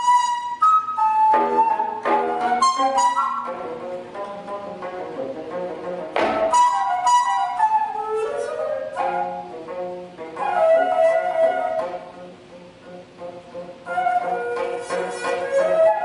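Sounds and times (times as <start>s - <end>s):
bamboo flute melody: 0.0s - 16.0s.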